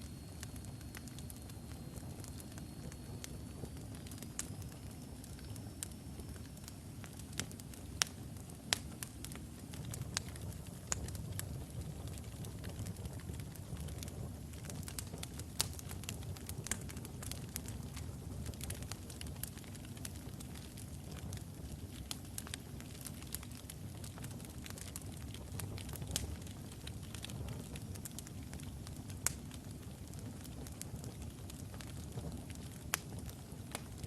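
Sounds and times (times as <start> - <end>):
fire rumbling: 0.0 - 34.0
wood crackling and popping: 0.0 - 34.0.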